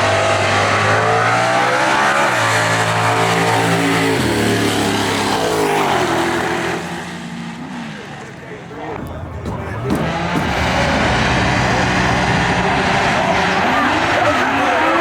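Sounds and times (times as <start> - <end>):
drag racing cars accelerating: 0.0 - 15.0.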